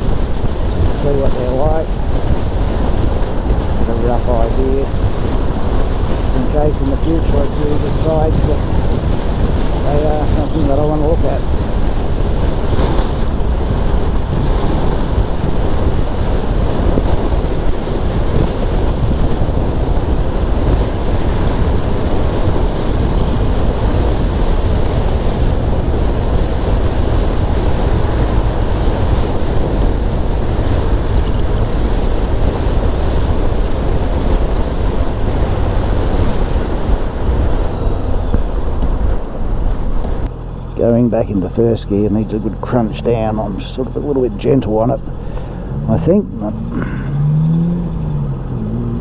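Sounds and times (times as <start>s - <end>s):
motorcycle running and tyre noise: 0.0s - 49.0s
wind buffeting microphone: 0.0s - 49.0s.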